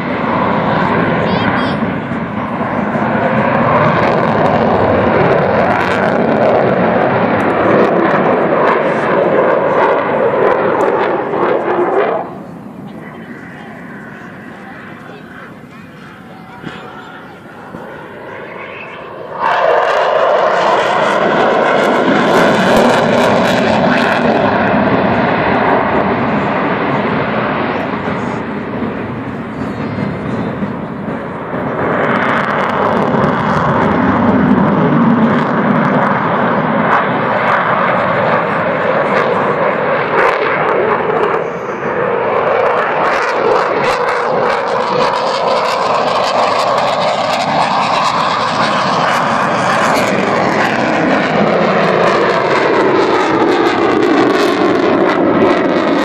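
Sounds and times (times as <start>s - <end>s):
loud jet engine roar: 0.0s - 56.0s.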